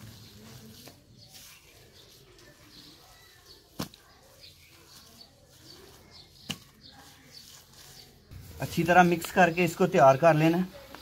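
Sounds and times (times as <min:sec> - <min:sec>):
hands mixing wet mud: 0:00.0 - 0:11.0.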